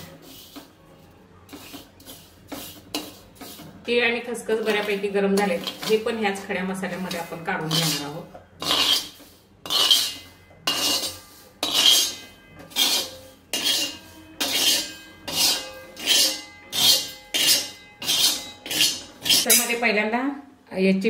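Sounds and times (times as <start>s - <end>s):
steel spoon scraping griddle: 0.0s - 19.9s.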